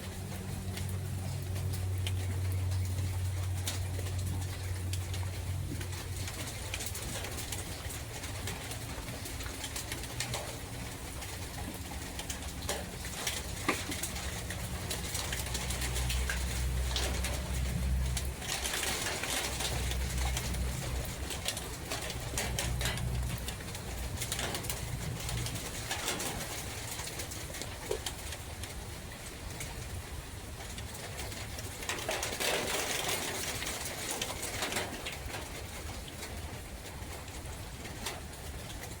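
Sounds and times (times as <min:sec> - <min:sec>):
wind and rain hiss: 0:00.0 - 0:39.0.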